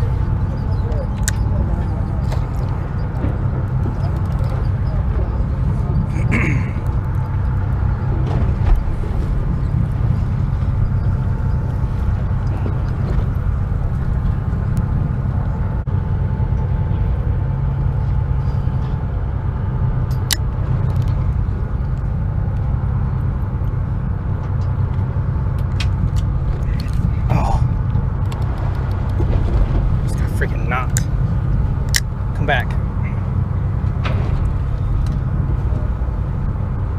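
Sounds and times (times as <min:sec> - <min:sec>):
boat engine rumbling: 0:00.0 - 0:36.9.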